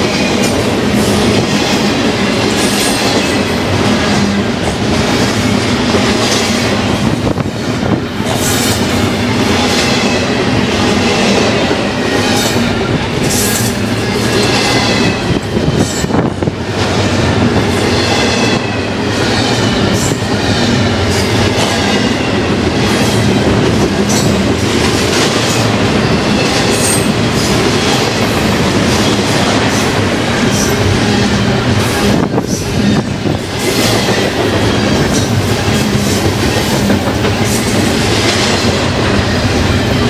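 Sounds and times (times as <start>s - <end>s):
rail joint clicks: 0.0s - 40.0s
train wheels rumbling and rattling: 0.0s - 40.0s.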